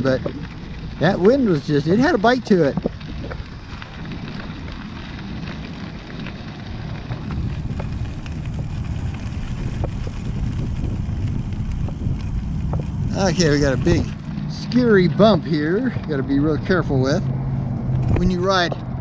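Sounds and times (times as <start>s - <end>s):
tyre and road noise: 0.0s - 19.0s
wind buffeting microphone: 0.0s - 19.0s.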